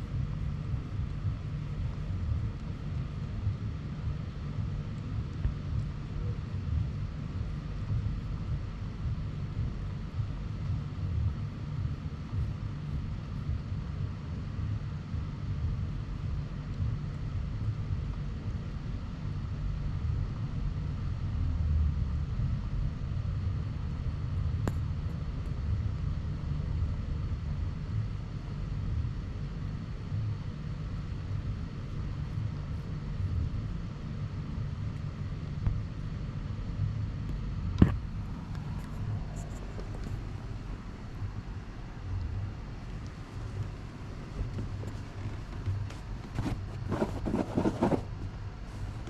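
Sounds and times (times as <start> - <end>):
low outdoor rumble: 0.0 - 49.0.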